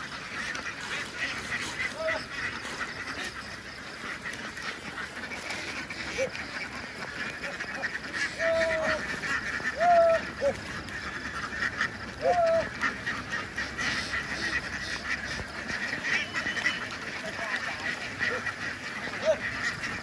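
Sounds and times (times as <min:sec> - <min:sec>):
drawn-out duck calls: 0:00.0 - 0:20.0
ducks quacking: 0:00.0 - 0:20.0.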